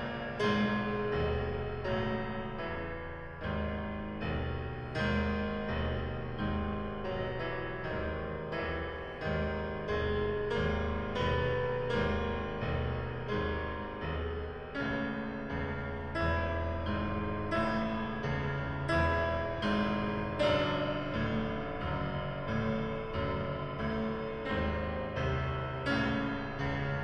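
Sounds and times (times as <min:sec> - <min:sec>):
piano chords through car speakers: 0:00.0 - 0:27.0.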